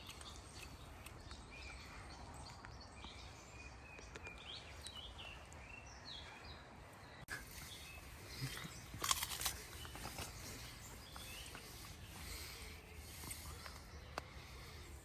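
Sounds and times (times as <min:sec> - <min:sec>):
birds chirping and whistling: 0:00.0 - 0:15.0
low steady background rumble: 0:00.0 - 0:15.0.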